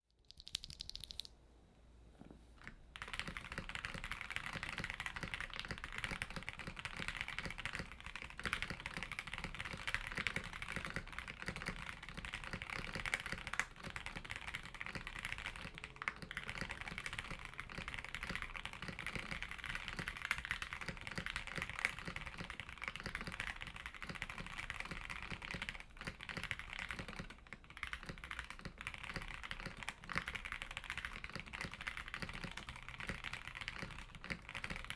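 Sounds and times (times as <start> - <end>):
mechanical keyboard typing: 0.2 - 1.3, 2.6 - 34.9.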